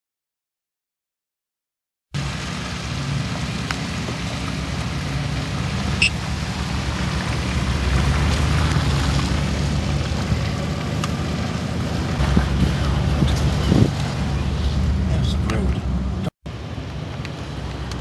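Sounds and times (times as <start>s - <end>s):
car driving rumble: 2.2s - 18.0s.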